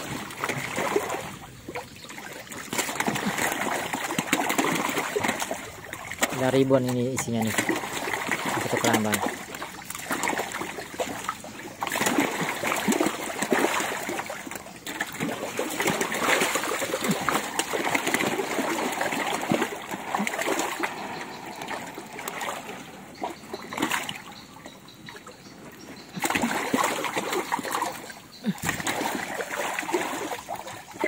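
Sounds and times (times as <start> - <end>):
fish splashing in water: 0.0 - 31.0.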